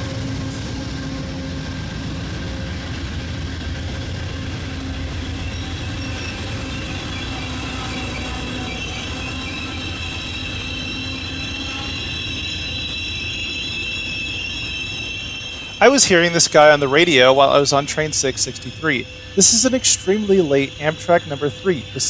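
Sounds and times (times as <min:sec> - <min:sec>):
train rumbling past: 0:00.0 - 0:22.0
wheels squealing on rails: 0:00.0 - 0:22.0.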